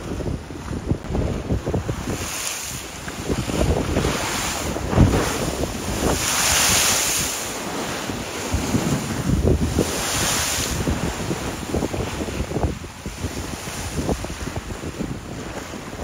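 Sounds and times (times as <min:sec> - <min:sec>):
waves on choppy water: 0:00.0 - 0:16.0
wind buffeting microphone: 0:00.0 - 0:16.0.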